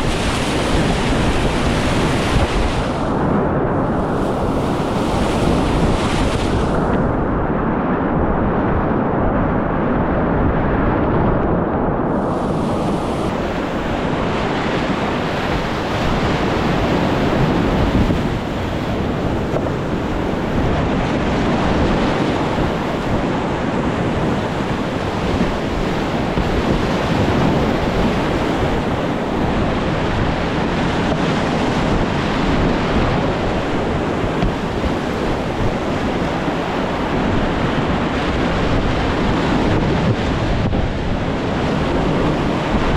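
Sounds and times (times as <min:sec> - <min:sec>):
wind buffeting the microphone: 0:00.0 - 0:42.9.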